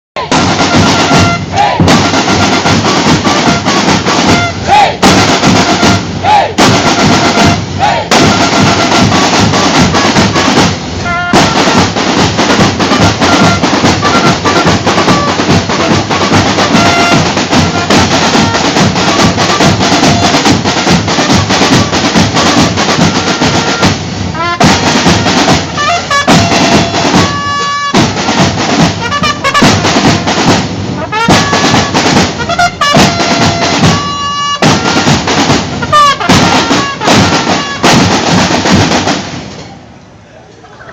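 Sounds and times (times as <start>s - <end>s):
brass notes: 0.2s - 39.4s
snare and bass drums marching: 0.2s - 39.6s.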